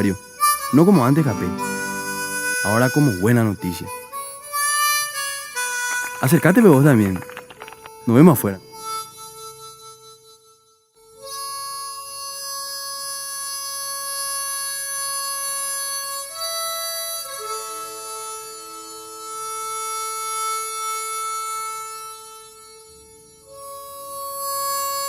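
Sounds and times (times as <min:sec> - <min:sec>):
free-reed instrument long notes: 0:00.0 - 0:25.0.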